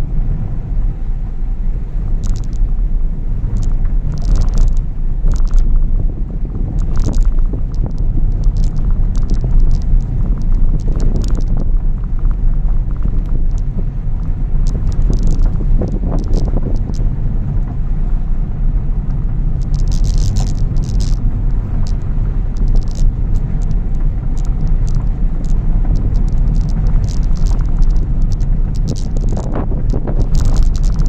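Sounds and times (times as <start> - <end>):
low rumble of tyres and engine: 0.0 - 31.0
clicks and knocks from rough road: 2.0 - 31.0.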